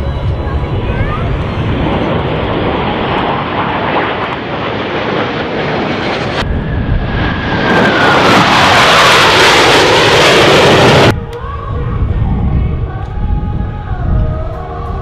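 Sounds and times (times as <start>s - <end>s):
aircraft passing with roar: 0.0s - 15.0s.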